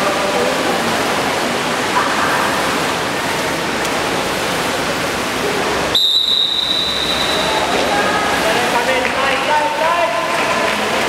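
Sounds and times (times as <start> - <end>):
water splashing from swimmers: 0.0 - 11.0.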